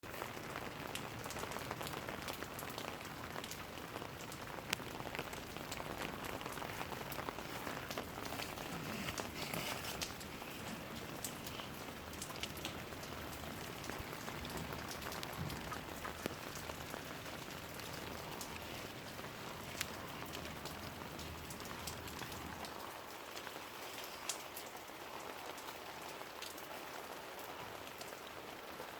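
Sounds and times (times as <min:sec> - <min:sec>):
raindrops ticking close by: 0:00.0 - 0:28.9
steady rain falling: 0:00.0 - 0:28.9.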